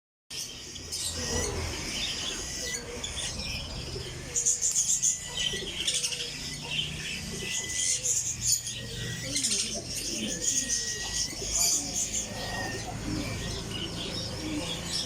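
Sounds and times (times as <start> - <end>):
parrot chicks chirping: 0.3 - 15.0.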